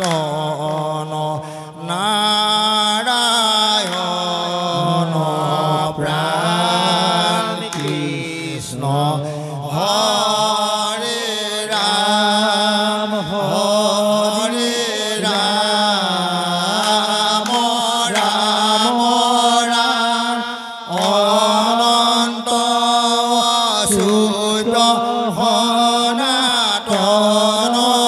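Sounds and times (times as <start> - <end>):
handclaps: 0.0 - 9.0, 13.5 - 28.0
group of men chanting: 0.0 - 28.0.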